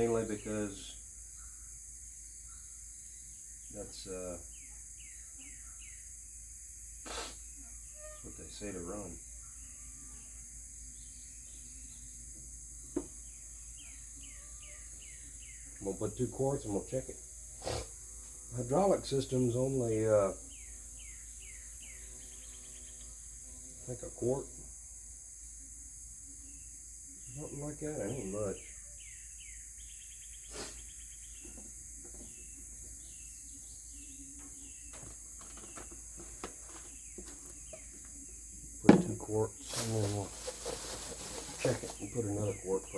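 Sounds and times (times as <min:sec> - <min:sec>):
bird chirping: 0:00.0 - 0:06.3, 0:07.0 - 0:16.8, 0:18.7 - 0:23.2, 0:25.7 - 0:42.9
insects droning: 0:00.0 - 0:42.9.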